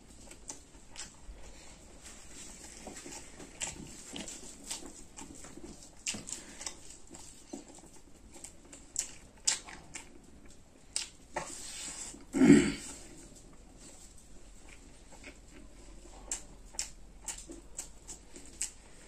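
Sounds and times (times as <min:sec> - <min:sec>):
person chewing wetly: 0:00.0 - 0:19.0.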